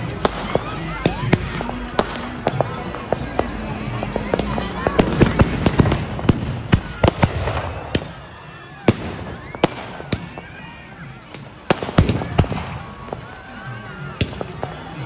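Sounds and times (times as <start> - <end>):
faint crowd voices: 0.0 - 15.0
firecrackers banging: 0.0 - 15.0.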